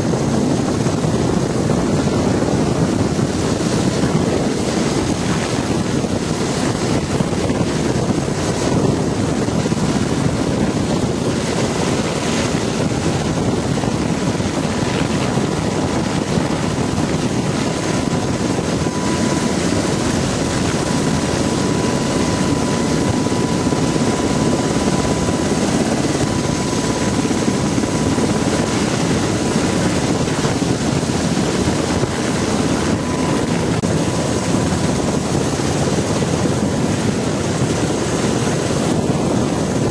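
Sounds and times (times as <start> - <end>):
helicopter rotor and turbine: 0.0 - 39.9
thin steady whine: 0.0 - 39.9.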